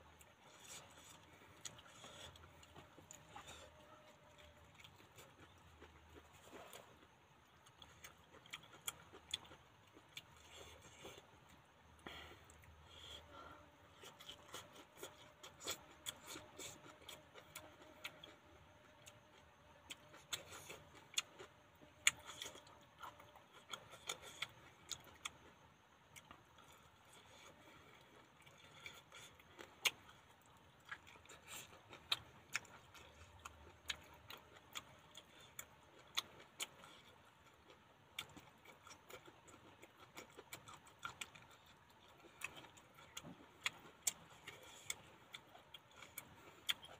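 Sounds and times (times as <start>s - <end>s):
person chewing: 0.0s - 46.9s.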